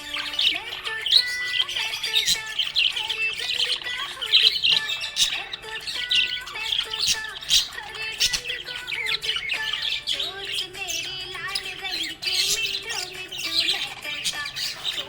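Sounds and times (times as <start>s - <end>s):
budgerigar chirping and warbling: 0.0s - 15.0s.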